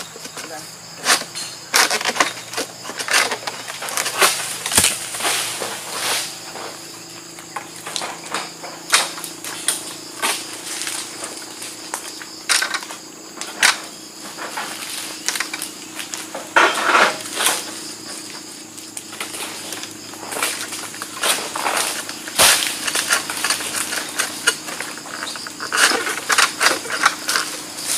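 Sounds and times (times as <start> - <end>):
sickle hacking palm fronds: 0.0 - 27.9.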